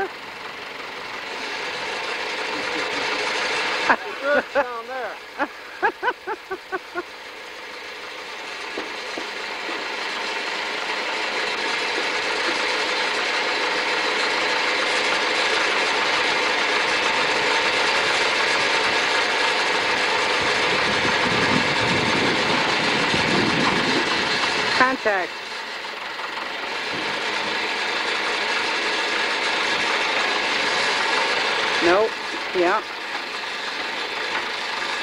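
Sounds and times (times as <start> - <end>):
tractor backhoe engine working: 0.0 - 35.0.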